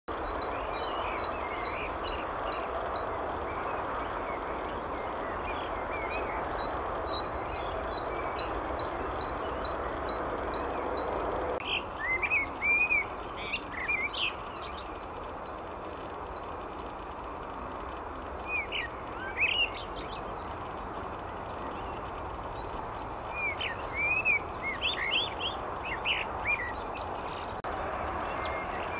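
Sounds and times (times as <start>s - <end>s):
blackbird singing: 0.1s - 17.1s, 18.4s - 28.9s
great tit singing: 0.1s - 28.9s.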